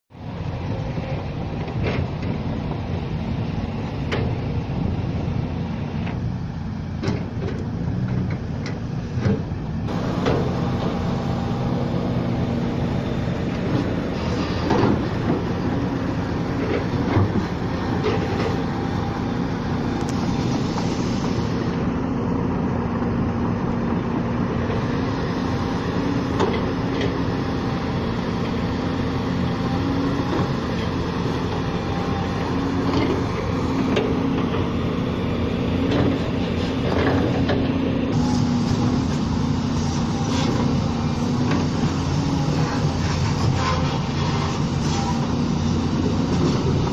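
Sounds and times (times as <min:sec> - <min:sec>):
diesel engines running: 0:00.1 - 0:46.9.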